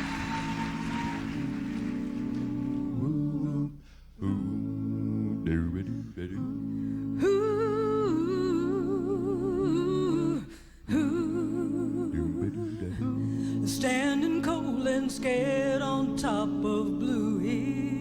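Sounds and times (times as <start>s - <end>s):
a cappella group humming chords: 0.0s - 18.0s.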